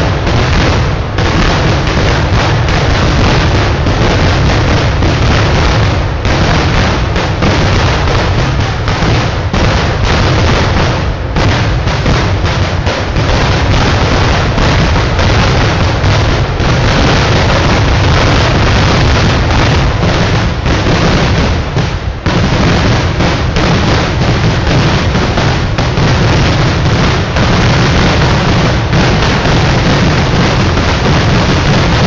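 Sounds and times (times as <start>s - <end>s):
firecracker bangs and booms: 0.0s - 32.0s.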